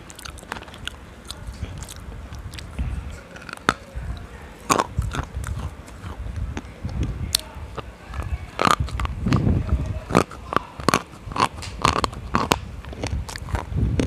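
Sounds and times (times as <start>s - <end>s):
biting and crunching hard chunk: 0.0s - 14.0s
chewing: 0.0s - 14.0s.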